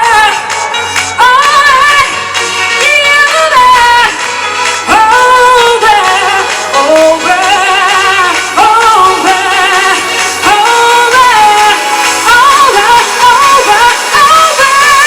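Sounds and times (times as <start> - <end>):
pop dance music: 0.0 - 15.0
woman singing: 0.0 - 15.0.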